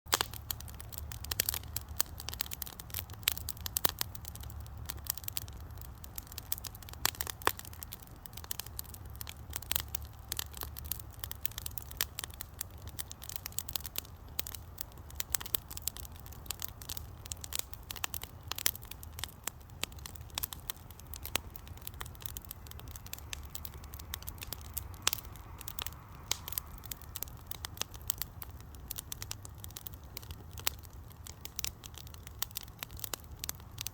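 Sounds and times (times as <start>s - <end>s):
wood fire crackling and popping: 0.1s - 33.9s.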